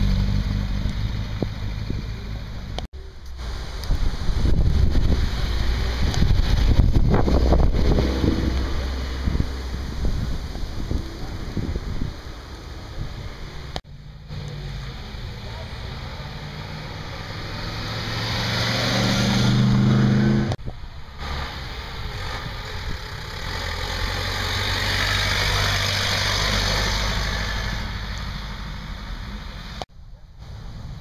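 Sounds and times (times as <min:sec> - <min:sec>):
car engine passing: 0:03.4 - 0:29.8.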